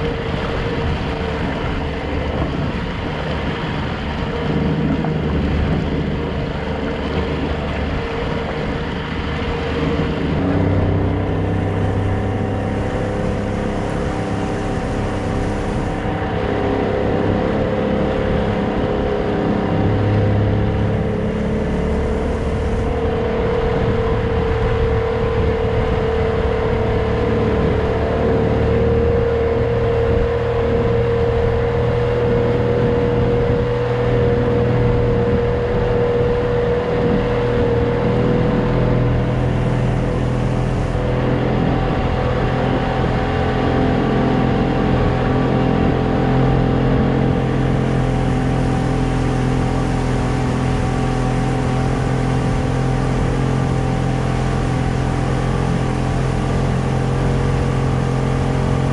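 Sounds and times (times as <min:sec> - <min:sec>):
outboard motor running: 0:00.0 - 0:58.9
water rushing: 0:00.0 - 0:58.9
wind: 0:00.0 - 0:58.9.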